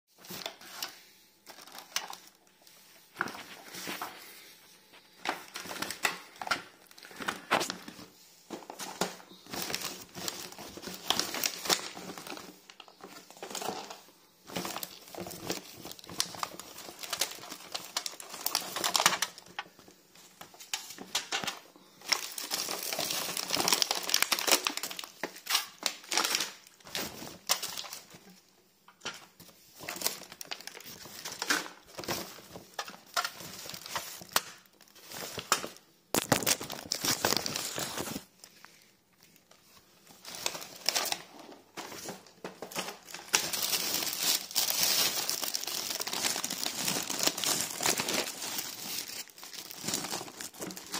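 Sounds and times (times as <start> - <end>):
plastic bags rustling: 0.1 - 50.9.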